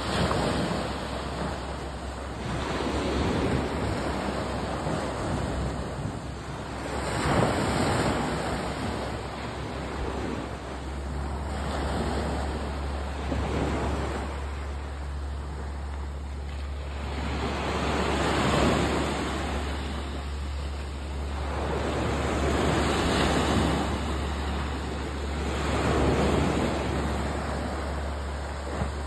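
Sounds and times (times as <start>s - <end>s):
small waves breaking on beach: 0.0s - 29.0s
wind rumble on microphone: 0.0s - 29.0s.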